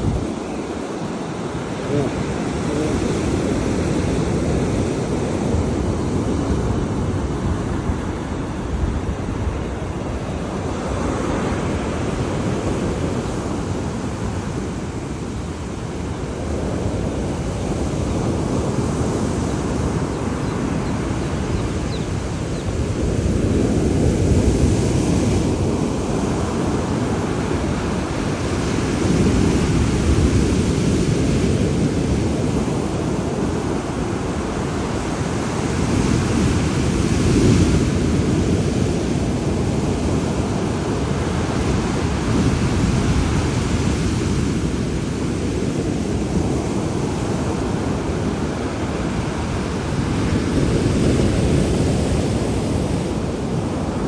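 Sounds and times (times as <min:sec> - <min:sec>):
storm waves breaking: 0:00.0 - 0:54.0
wind buffeting microphone: 0:00.0 - 0:54.0.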